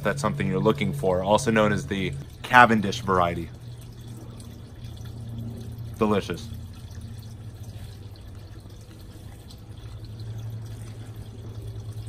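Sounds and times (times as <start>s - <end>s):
constant low hum: 0.0s - 12.0s
trickling water: 0.0s - 12.0s.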